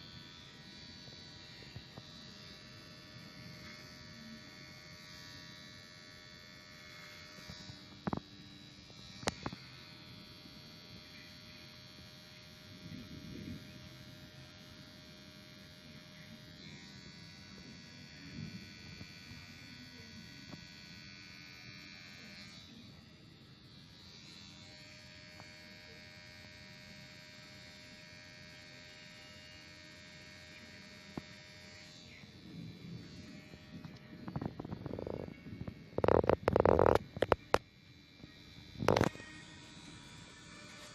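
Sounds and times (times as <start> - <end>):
electric hair clipper buzzing: 0.0 - 40.9.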